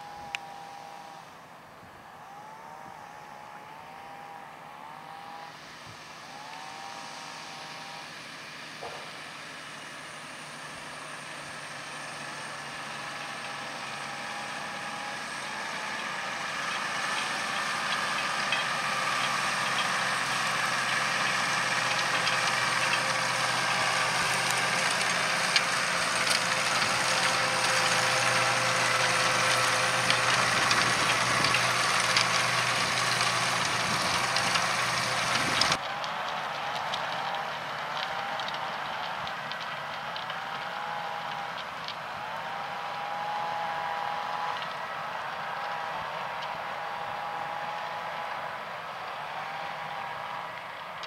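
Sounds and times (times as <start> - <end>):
tractor engine under load: 0.0 - 51.0.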